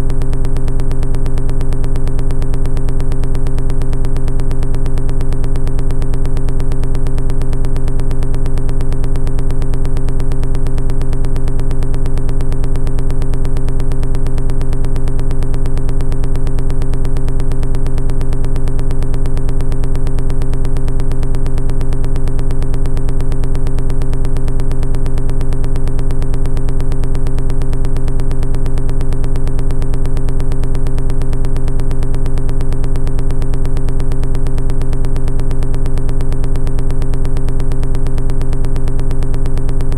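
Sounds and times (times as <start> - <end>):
synthesizer drone with fast pulse: 0.0 - 39.9.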